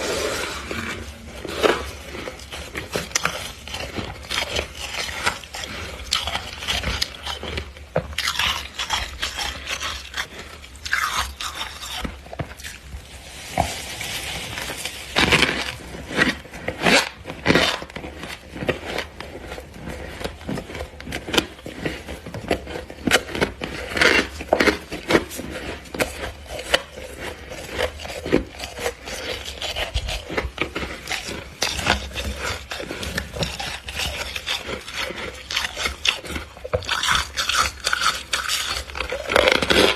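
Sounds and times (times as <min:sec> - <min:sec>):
frost being scraped: 0:00.0 - 0:39.9
frost crunching while chewed: 0:00.0 - 0:39.9.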